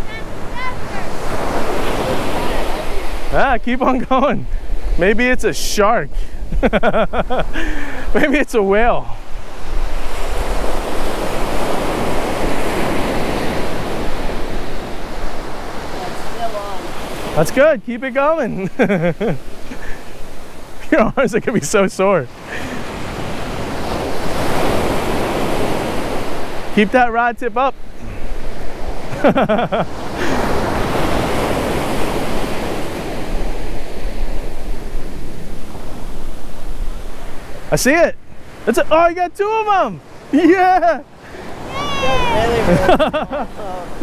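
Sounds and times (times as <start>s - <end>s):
ocean surf breaking: 0.0s - 44.0s.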